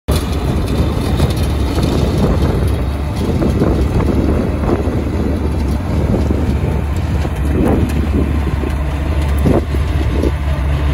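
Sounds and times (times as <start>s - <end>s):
rotor churning through soil: 0.1s - 10.9s
tractor diesel engine under load: 0.1s - 10.9s.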